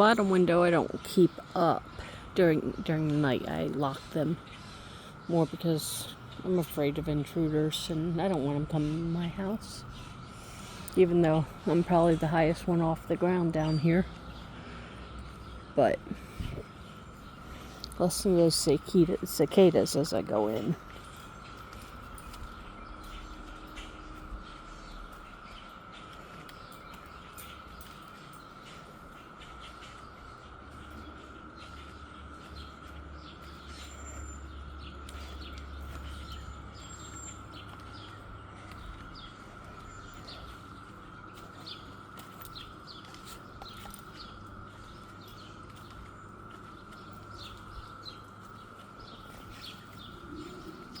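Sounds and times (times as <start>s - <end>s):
cicadas droning: 0.0s - 51.0s
bird chirps: 3.6s - 51.0s.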